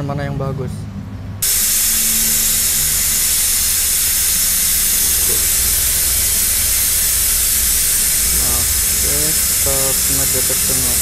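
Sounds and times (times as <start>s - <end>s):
loud high hiss: 1.4s - 11.0s.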